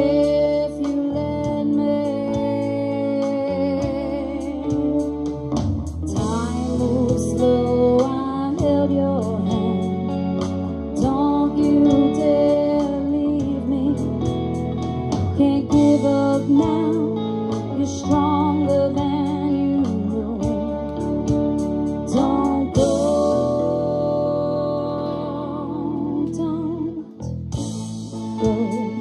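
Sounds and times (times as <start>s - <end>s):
bass: 0.0s - 29.0s
drums: 0.0s - 29.0s
electric guitar lead: 0.0s - 29.0s.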